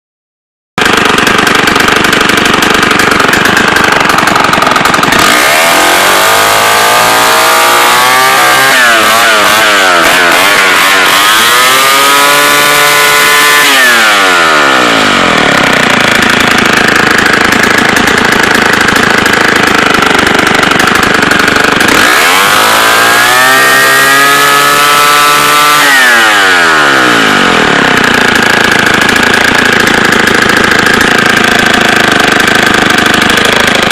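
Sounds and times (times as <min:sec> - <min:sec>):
chainsaw idling and revving: 0:00.8 - 0:33.9.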